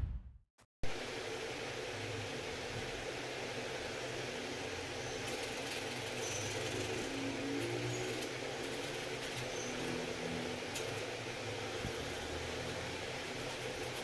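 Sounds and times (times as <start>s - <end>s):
low mechanical hum: 0.8s - 14.0s.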